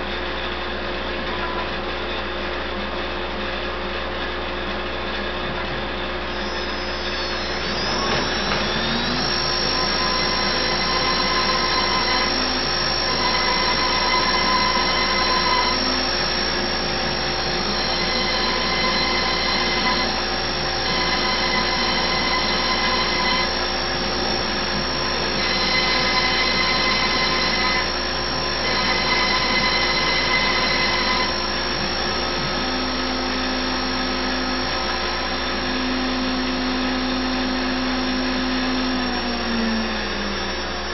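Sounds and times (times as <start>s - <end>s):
router spindle running: 6.2s - 40.9s
higher spindle tone: 6.3s - 40.8s.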